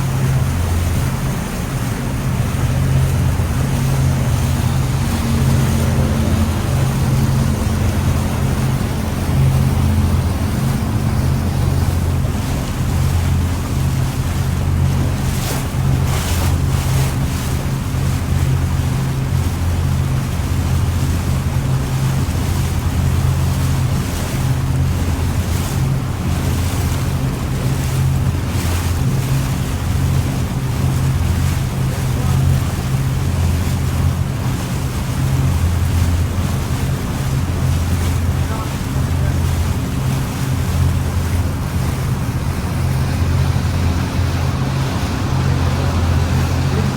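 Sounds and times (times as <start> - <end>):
sea wash: 0.0 - 46.9
ship engine droning: 0.0 - 46.9
wind buffeting microphone: 0.0 - 46.9.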